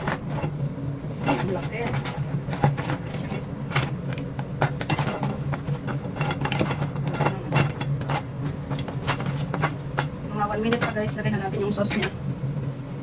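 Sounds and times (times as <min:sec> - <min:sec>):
crabs sizzling in hot oil: 0:00.0 - 0:12.6
steady low hum: 0:00.0 - 0:13.0.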